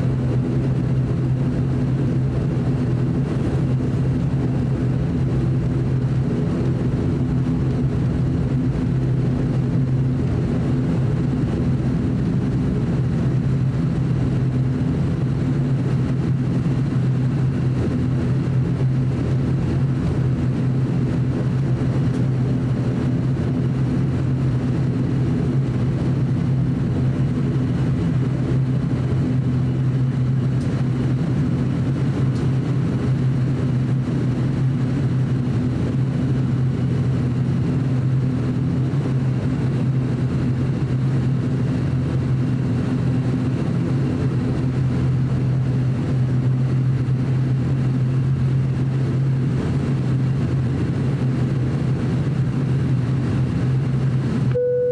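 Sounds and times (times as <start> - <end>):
turboprop engine drone: 0.0 - 54.9.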